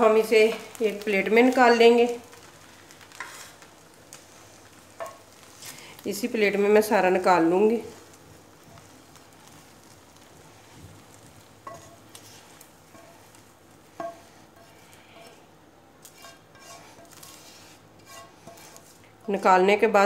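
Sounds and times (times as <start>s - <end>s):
spatula scraping frying pan: 0.0s - 19.5s
oil sizzling in pan: 0.0s - 20.0s
spatula tapping: 0.4s - 5.8s, 8.0s - 19.5s.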